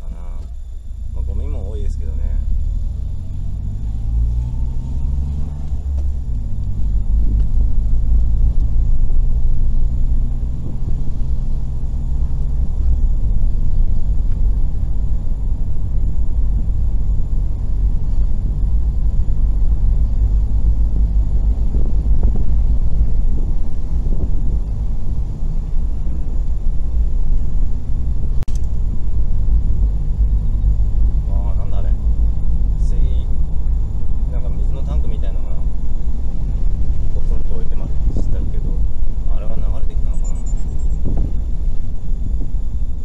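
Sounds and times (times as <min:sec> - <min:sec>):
car engine: 0:00.0 - 0:43.0
tyre and road rumble: 0:00.0 - 0:43.0.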